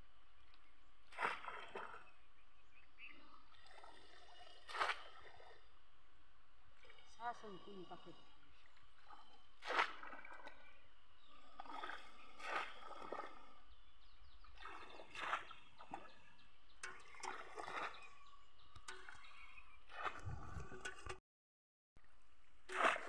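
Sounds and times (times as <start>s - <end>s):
pond water splashing: 0.0s - 21.2s, 22.0s - 23.0s.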